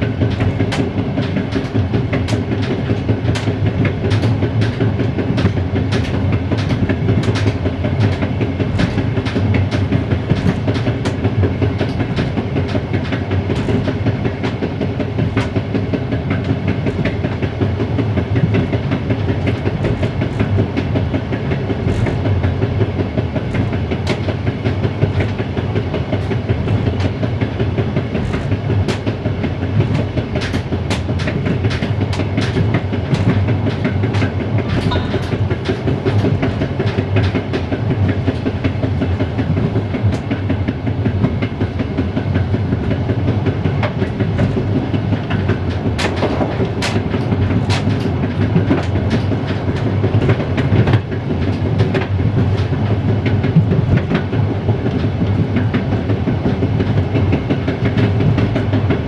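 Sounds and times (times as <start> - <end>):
clicks over rail joints: 0.0 - 59.0
wheel-on-rail running noise: 0.0 - 59.0.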